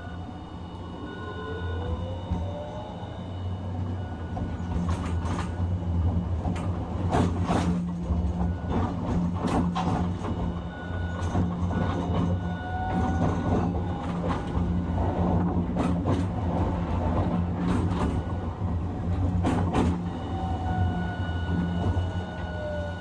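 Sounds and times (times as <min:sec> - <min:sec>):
tram motor hum and whine: 0:00.0 - 0:23.0.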